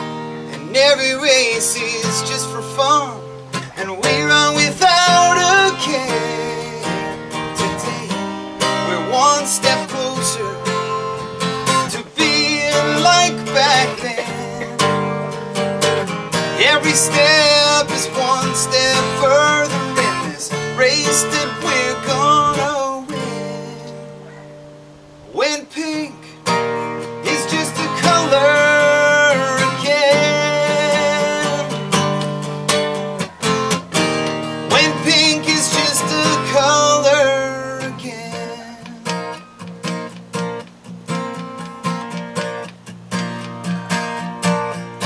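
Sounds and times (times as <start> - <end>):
man singing: 0.0 - 24.4, 25.3 - 39.6
acoustic guitar strumming: 0.0 - 45.0.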